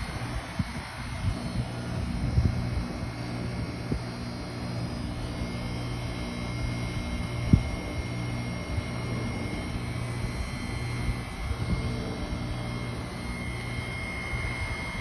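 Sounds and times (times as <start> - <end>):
faint high whine: 0.0 - 15.0
heat pump humming: 0.0 - 15.0.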